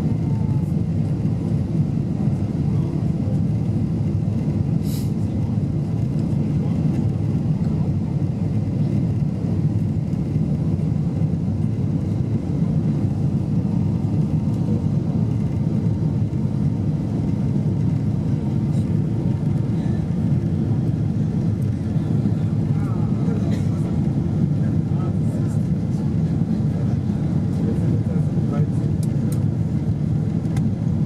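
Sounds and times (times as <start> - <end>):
airliner cabin engine rumble: 0.0 - 31.0.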